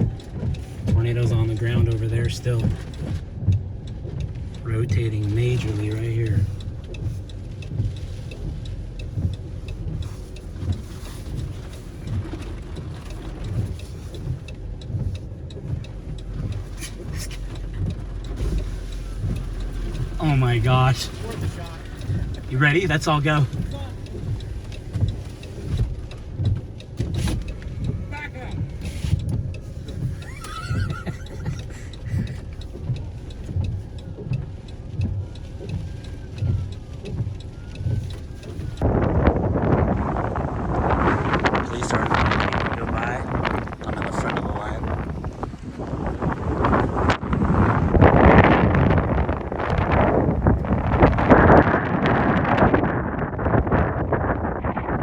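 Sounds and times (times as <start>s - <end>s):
car engine and road noise: 0.0s - 55.0s
regular low thump: 0.0s - 55.0s.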